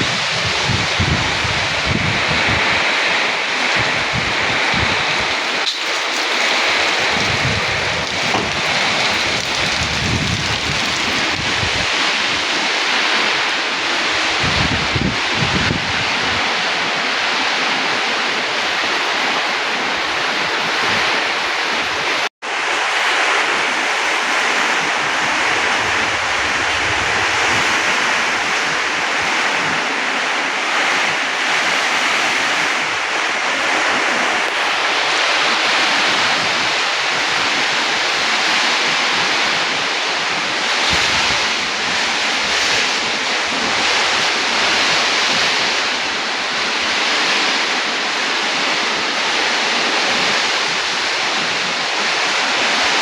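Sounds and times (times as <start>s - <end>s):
wind buffeting microphone: 0.0s - 22.3s, 22.9s - 53.0s
heavy rain: 0.0s - 53.0s.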